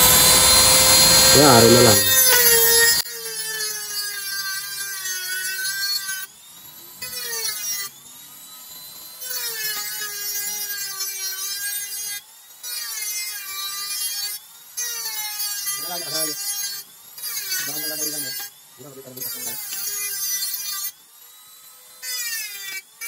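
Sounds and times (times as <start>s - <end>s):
rotary tool cutting metal: 0.0s - 23.0s.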